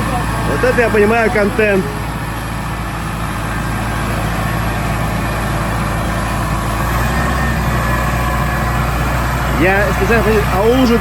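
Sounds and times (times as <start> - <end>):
off-road vehicle engine droning: 0.0 - 11.0.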